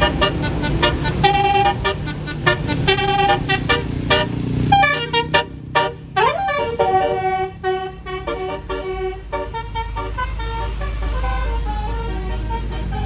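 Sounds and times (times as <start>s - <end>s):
bus engine rumble: 0.0s - 13.0s
musical air horn tune: 0.0s - 13.0s.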